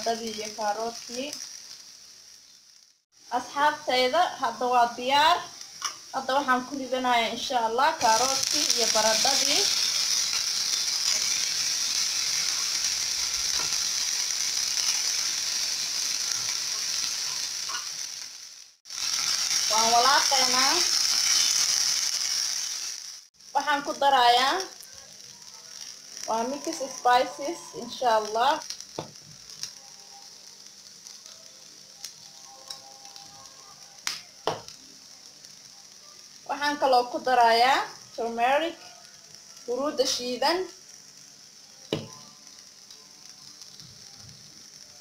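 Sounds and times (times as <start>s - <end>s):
vegetables sizzling in hot oil: 0.0s - 45.0s.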